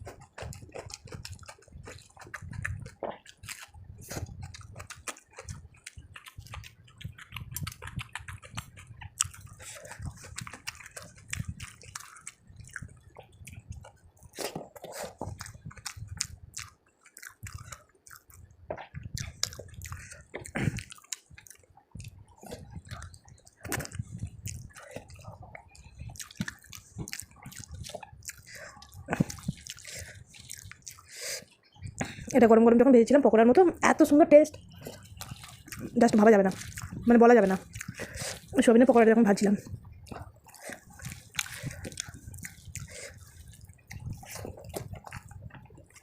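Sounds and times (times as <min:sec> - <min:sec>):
person chewing and mouth smacks: 0:00.0 - 0:32.5, 0:34.5 - 0:46.0.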